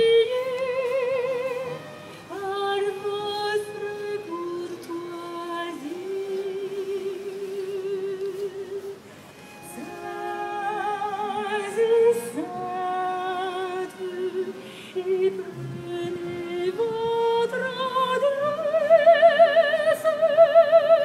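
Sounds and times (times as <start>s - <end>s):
woman singing with vibrato: 0.0s - 21.0s.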